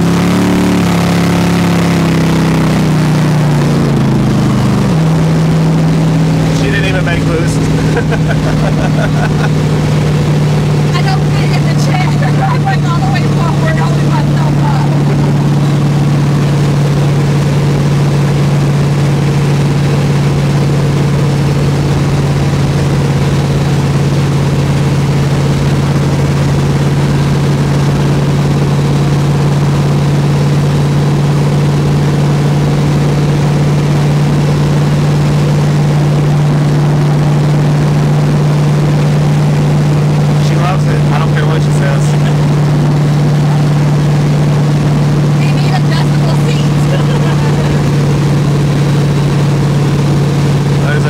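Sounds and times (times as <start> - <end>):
road and wind noise: 0.0 - 51.0
truck engine droning: 0.0 - 51.0.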